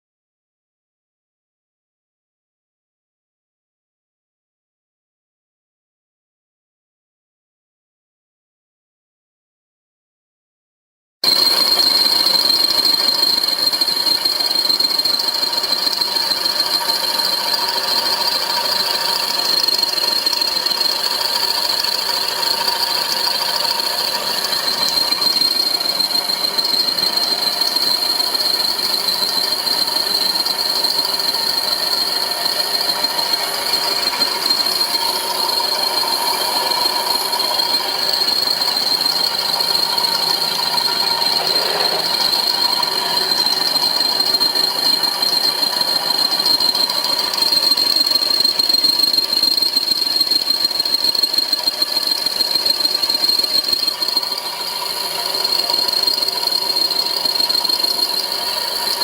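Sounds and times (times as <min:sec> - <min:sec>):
milling machine whining: 0:11.2 - 0:59.0.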